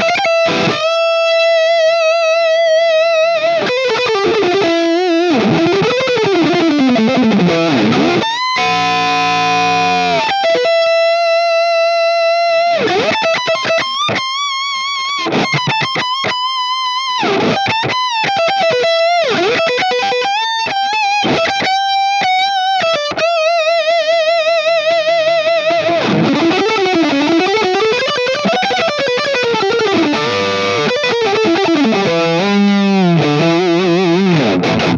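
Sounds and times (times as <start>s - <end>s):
overdriven electric guitar: 0.0s - 34.9s.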